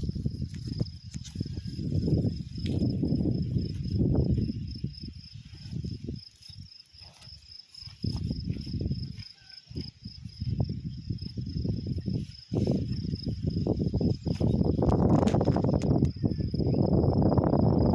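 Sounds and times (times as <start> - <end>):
insect trilling: 0.0 - 17.9.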